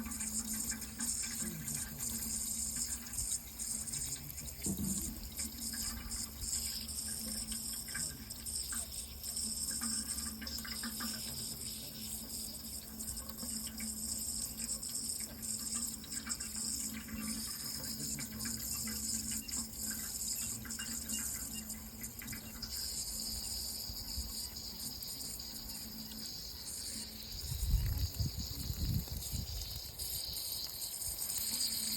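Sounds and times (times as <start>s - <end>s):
running water: 0.0s - 31.9s.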